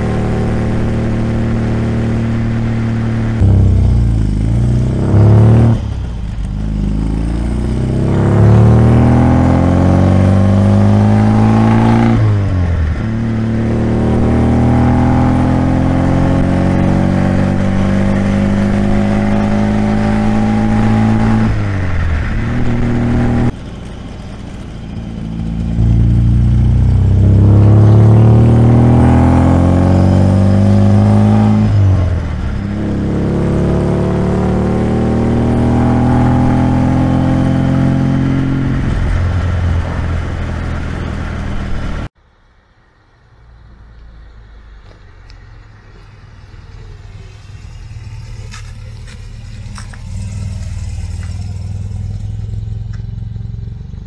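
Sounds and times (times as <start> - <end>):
car engine accelerating: 0.0 - 42.2, 43.4 - 54.0.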